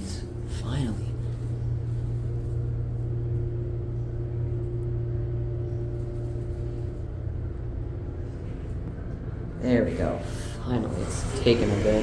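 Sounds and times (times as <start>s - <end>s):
elevator low hum: 0.0s - 12.0s.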